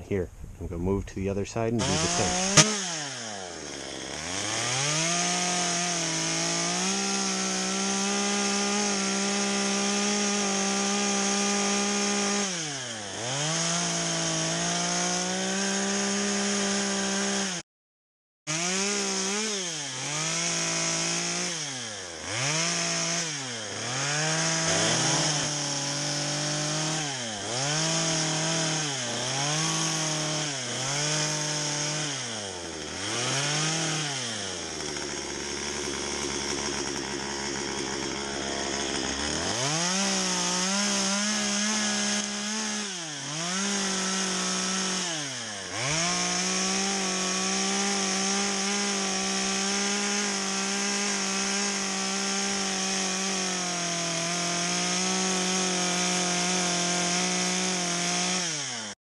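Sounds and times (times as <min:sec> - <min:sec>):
chainsaw cutting log: 0:01.6 - 0:17.6, 0:18.5 - 0:59.0.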